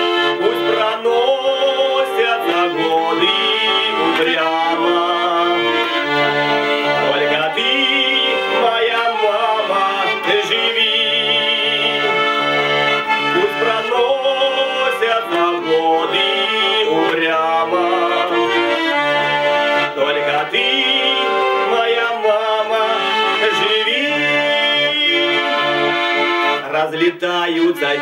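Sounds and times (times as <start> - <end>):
button accordion playing: 0.0 - 28.0.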